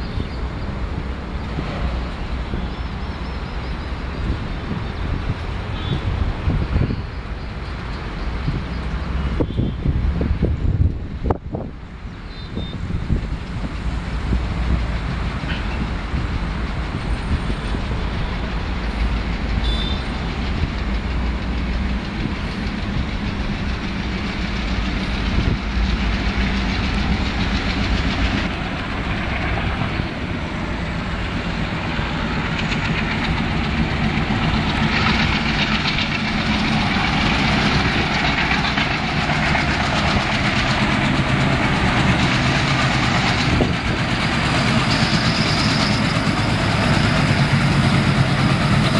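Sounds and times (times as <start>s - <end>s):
diesel locomotive engine rumble: 0.0s - 48.9s.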